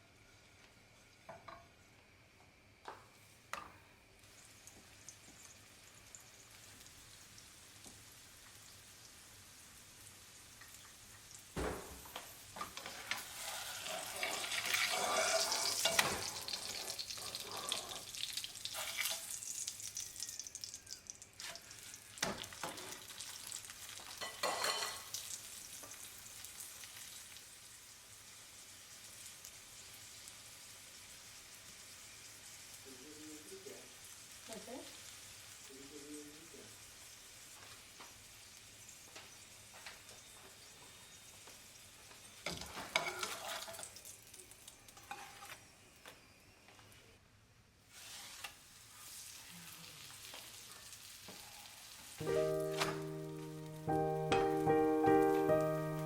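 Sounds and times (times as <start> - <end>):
flatbread sizzling on a pan: 0.0 - 53.9.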